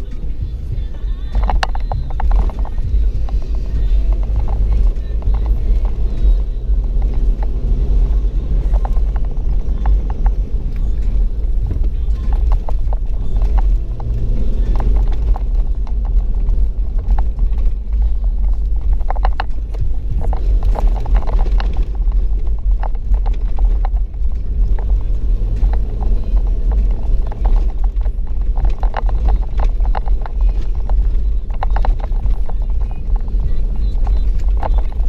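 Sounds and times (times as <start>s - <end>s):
knocks and rattles: 0.0s - 35.0s
vehicle rumble from inside cabin: 0.0s - 35.0s.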